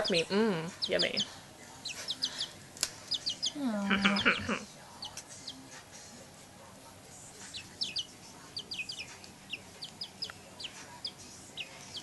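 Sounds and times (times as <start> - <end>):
baby chicks peeping: 0.0 - 6.1, 7.1 - 12.0.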